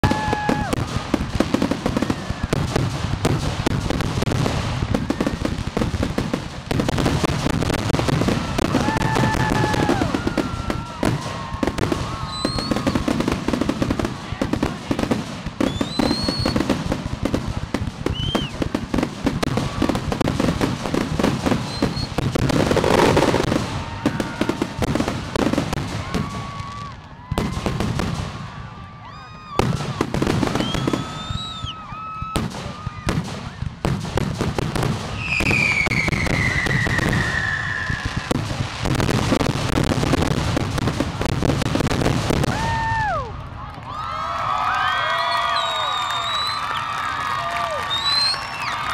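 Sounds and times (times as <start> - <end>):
fireworks whistling: 0.0 - 43.2, 44.8 - 48.9
fireworks bursting and crackling: 0.0 - 48.9.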